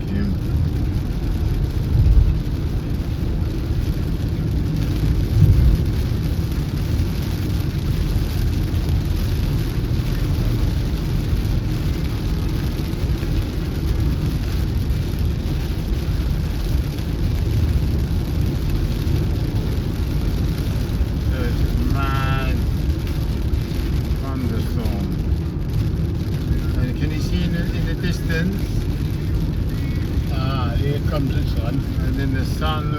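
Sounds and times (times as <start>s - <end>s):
car driving rumble from inside: 0.0s - 32.9s.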